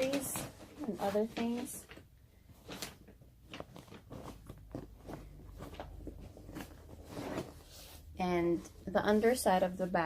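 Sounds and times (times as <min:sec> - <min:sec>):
fabric bag rustling: 0:00.0 - 0:10.0.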